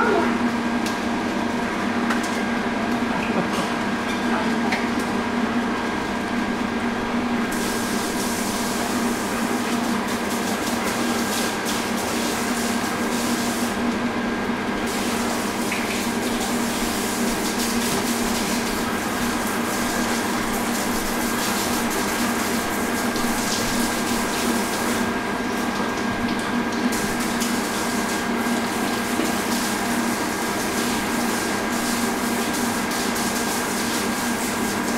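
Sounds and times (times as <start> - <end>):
pool pump humming: 0.0 - 34.9.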